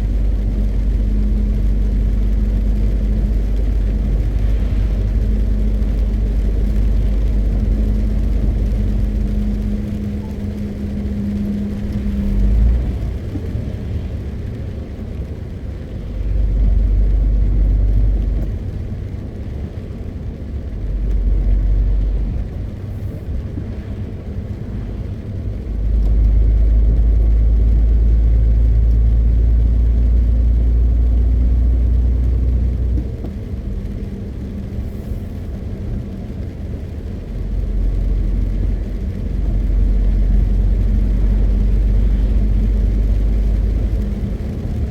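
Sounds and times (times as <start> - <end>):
truck diesel engine rumble: 0.0 - 44.9.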